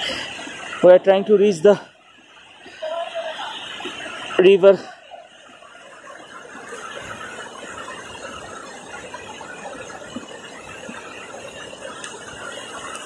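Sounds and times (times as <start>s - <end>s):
mountain river rushing: 0.0s - 13.0s.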